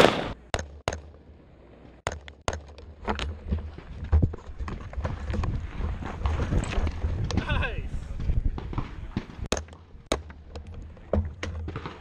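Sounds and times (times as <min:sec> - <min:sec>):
handling rumble with rattles: 0:00.4 - 0:12.0.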